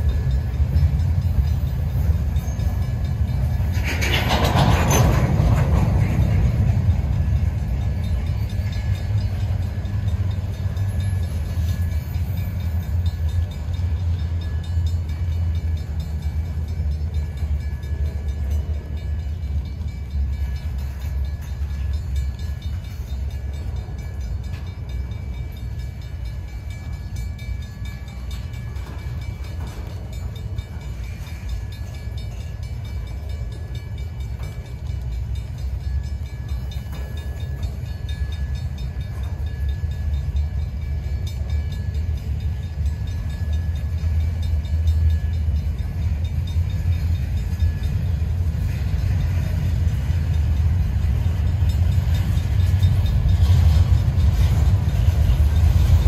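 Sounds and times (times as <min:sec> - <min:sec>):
freight train rolling on rails: 0:00.0 - 0:56.0.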